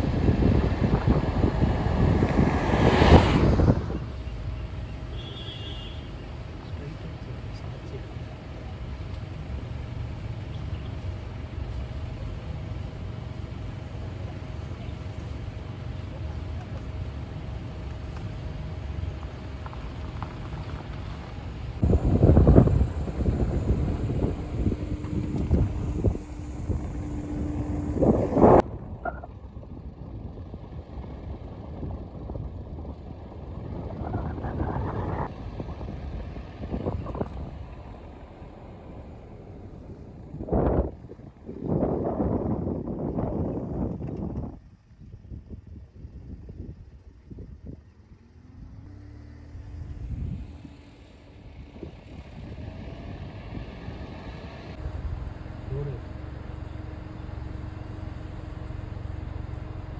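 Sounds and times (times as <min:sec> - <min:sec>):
vehicle engine idling: 0:03.9 - 0:59.9.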